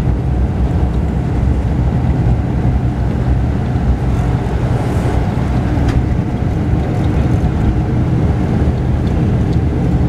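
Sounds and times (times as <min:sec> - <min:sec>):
diesel engine drone: 0:00.0 - 0:10.0
road noise: 0:00.0 - 0:10.0.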